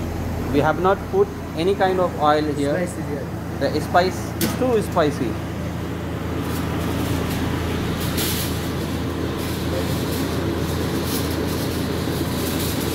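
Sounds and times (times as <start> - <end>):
kitchen machinery hum: 0.0 - 12.9.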